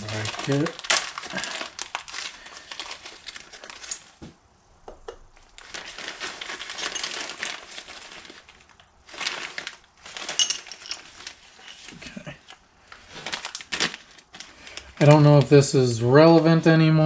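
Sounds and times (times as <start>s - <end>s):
plastic packaging crinkling: 0.0s - 4.2s, 5.4s - 15.6s.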